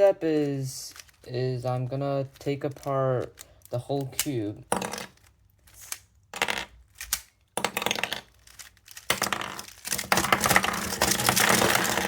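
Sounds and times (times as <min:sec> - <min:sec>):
plastic puzzle pieces clicking: 0:00.8 - 0:12.0.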